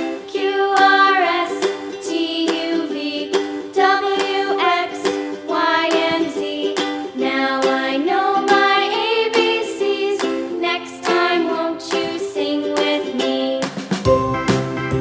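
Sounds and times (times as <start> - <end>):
person singing: 0.0 - 13.9
plucked strummed accompaniment: 0.0 - 15.0.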